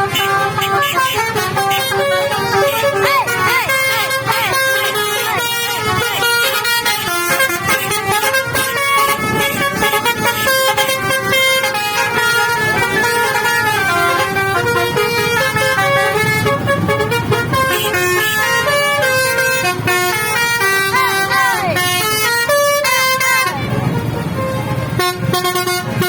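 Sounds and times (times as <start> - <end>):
musical air horns playing tune: 0.0 - 26.0
vehicle noise: 0.0 - 26.0.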